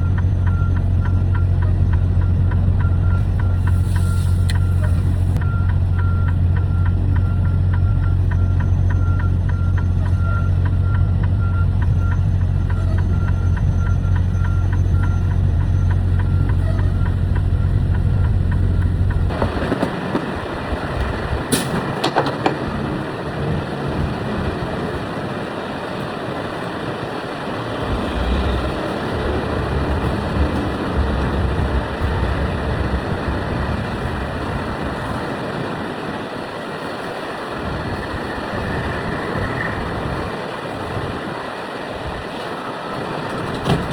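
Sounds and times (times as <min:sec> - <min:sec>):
rushing road noise: 0:00.0 - 0:43.9
truck engine hum: 0:00.0 - 0:43.9.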